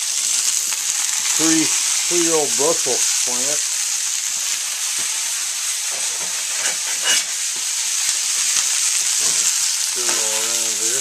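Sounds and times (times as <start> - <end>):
meat and greens sizzling in skillet: 0.0 - 11.0.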